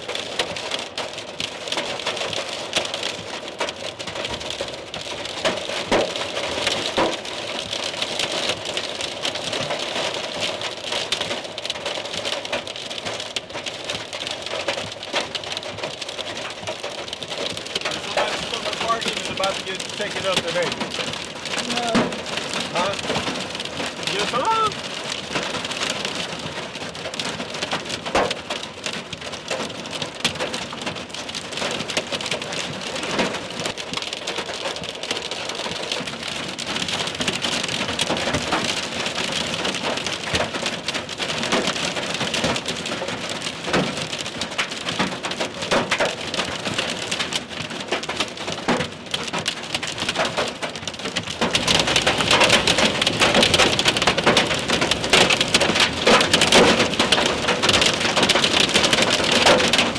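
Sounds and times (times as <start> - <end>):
hail hitting windows: 0.0 - 59.9
heavy rain on truck roof: 0.0 - 59.9.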